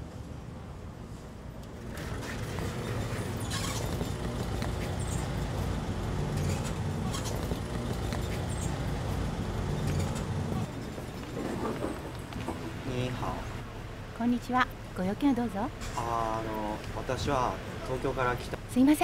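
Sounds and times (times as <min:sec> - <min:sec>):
traffic low rumble: 0:00.0 - 0:19.0.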